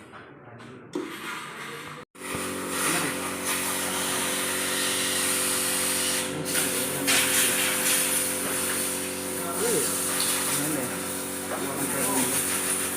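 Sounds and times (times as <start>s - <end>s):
machine humming with hiss: 2.2s - 12.9s.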